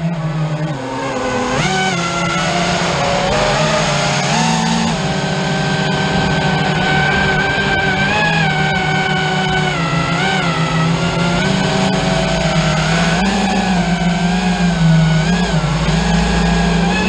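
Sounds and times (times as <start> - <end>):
motor running: 0.0 - 17.0.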